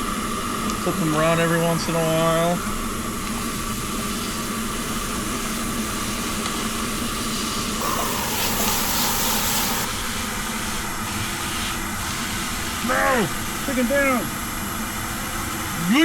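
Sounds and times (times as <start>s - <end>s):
camp stove burner rushing: 0.0s - 16.0s.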